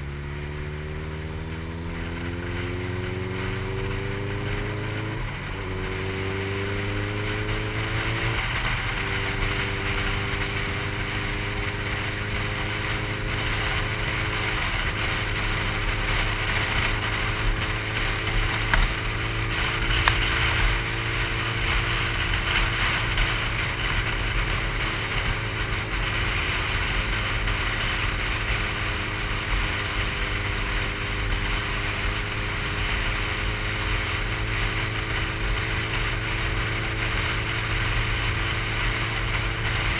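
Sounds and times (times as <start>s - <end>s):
motorcycle engine accelerating: 0.0s - 39.9s
wind rush on microphone: 2.6s - 39.9s.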